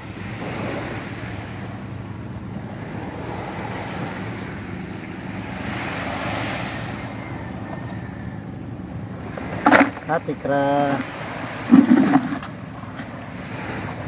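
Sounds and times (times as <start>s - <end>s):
sea waves washing onto shore: 0.0s - 14.0s.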